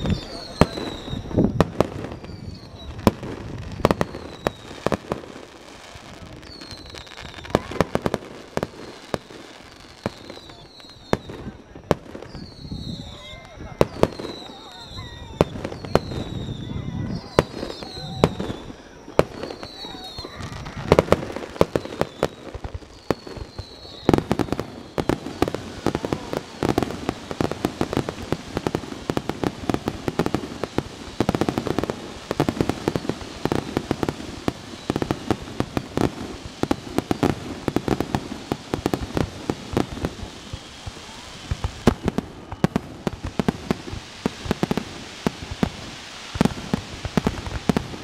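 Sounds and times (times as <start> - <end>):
fireworks bursting with bangs: 0.0 - 48.0
fireworks crackling: 0.0 - 48.0.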